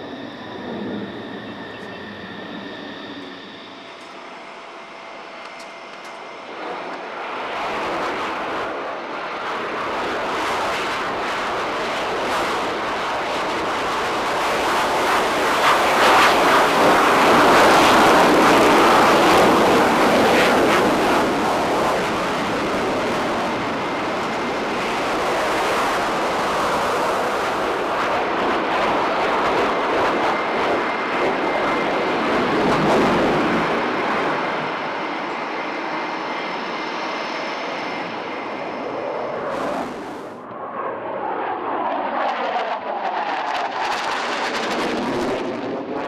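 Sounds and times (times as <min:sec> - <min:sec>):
fighter jet flying past: 0:00.0 - 0:46.0.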